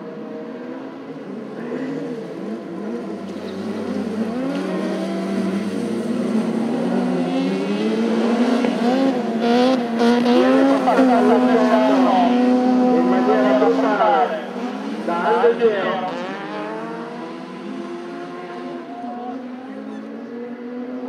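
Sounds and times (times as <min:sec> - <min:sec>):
buggy engines revving: 0:00.0 - 0:21.0.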